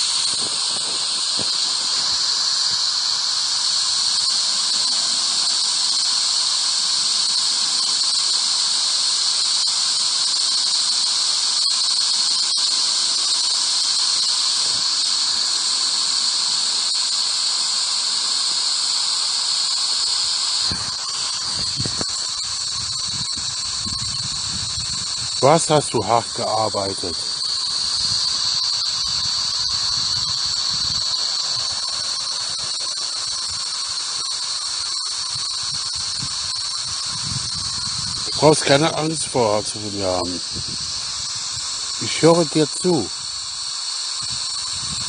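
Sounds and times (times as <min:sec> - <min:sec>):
high-pitched hissing static: 0:00.0 - 0:45.0.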